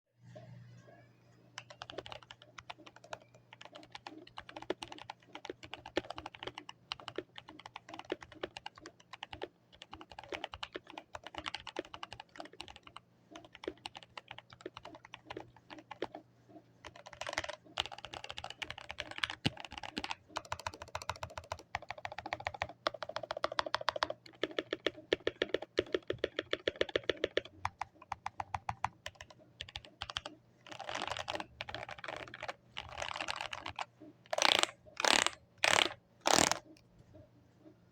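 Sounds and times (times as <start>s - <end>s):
mechanical keyboard typing: 1.6s - 36.8s.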